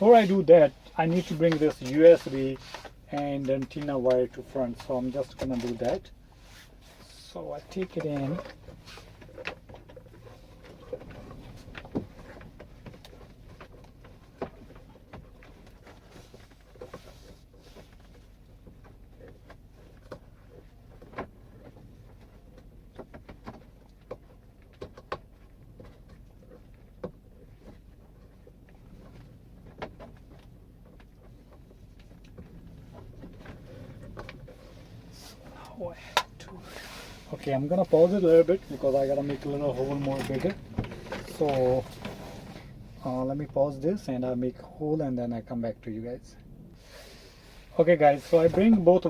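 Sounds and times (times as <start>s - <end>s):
clicks and rustles of plastic parts: 0.1s - 43.2s.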